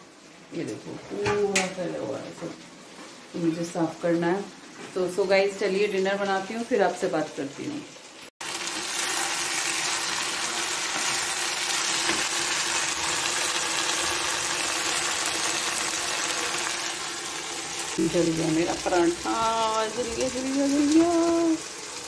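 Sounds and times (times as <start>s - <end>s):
food sizzling on stove: 0.0s - 22.0s.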